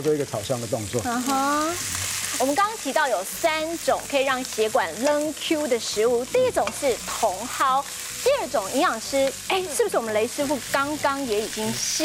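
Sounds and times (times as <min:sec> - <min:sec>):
fish sizzling in oiled pan: 0:00.0 - 0:12.0.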